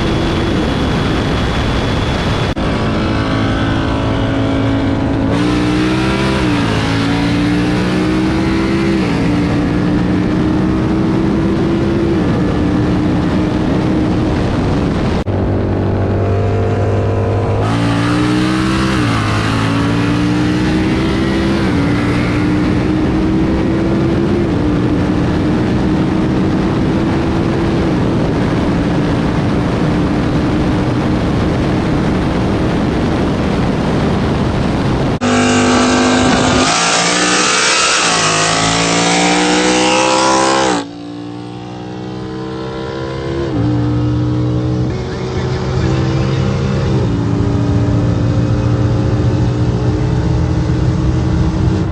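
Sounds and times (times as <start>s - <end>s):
car engine accelerating: 0.0s - 32.6s, 34.9s - 51.9s.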